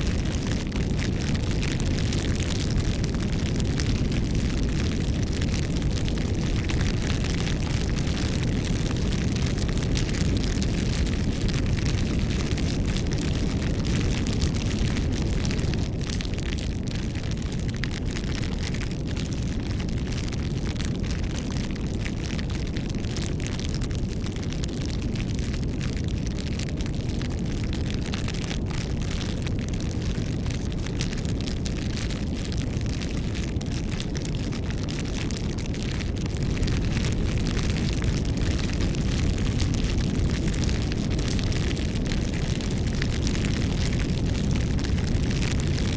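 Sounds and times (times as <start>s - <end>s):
low rumble of flames: 0.0s - 45.9s
wood crackling and popping: 0.0s - 45.9s.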